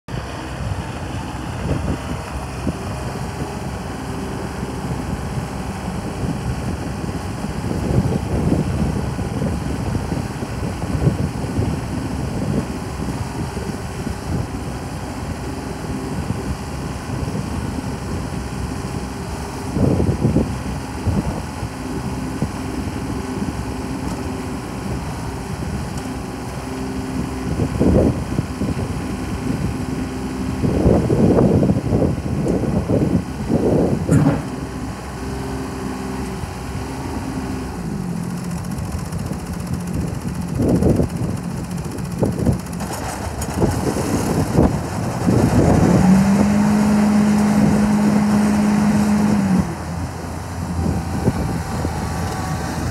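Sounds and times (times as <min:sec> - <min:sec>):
lawn tractor diesel engine running: 0:00.1 - 0:52.9.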